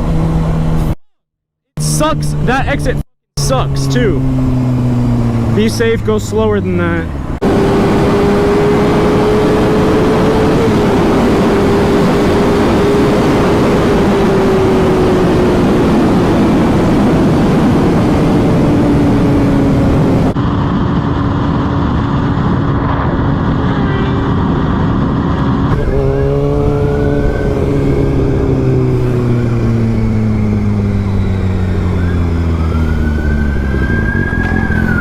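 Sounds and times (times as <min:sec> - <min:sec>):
motorcycle engine at speed: 0:00.0 - 0:01.0, 0:01.8 - 0:35.0
wind rush: 0:04.2 - 0:35.0.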